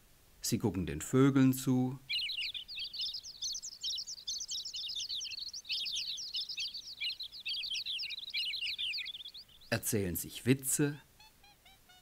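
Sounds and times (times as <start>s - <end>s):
birds chirping: 0.8s - 12.0s.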